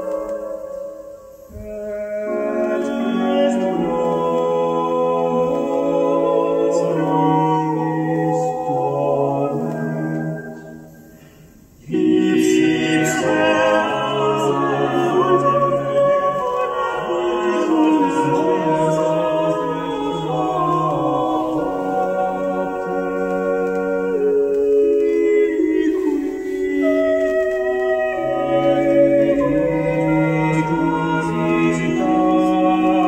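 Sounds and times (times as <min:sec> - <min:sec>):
choral singing over speakers: 0:00.0 - 0:33.0.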